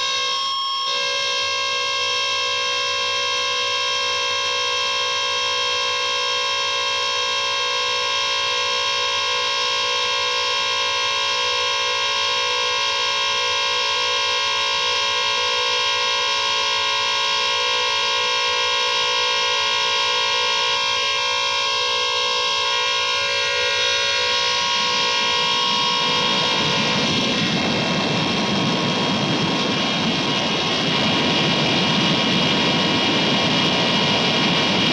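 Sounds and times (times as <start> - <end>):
electronic drone: 0.0 - 34.9.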